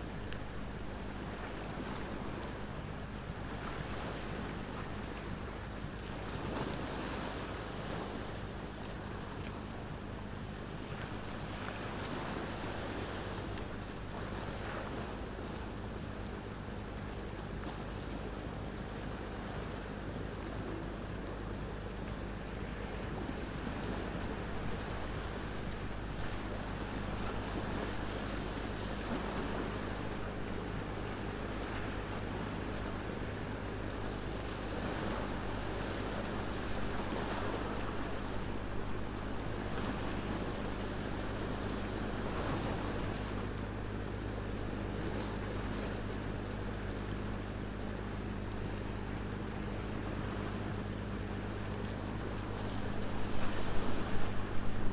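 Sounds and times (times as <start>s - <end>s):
ocean waves washing on shore: 0.0s - 54.9s.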